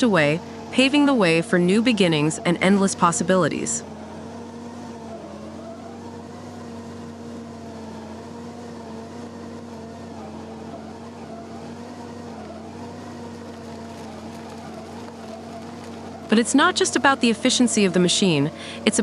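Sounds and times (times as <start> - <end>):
stump grinder engine under load: 0.2 - 19.0.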